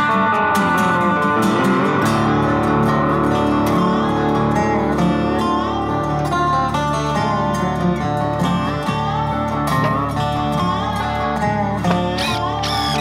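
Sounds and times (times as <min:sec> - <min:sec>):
acoustic guitar instrumental: 0:00.0 - 0:13.0.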